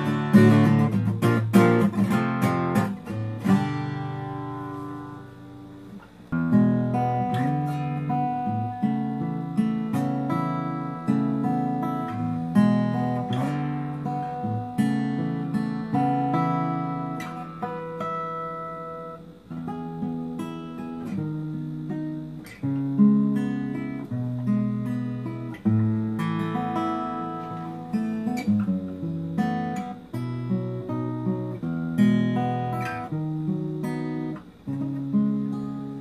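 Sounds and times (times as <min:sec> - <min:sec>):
acoustic guitar chords: 0:00.0 - 0:36.0.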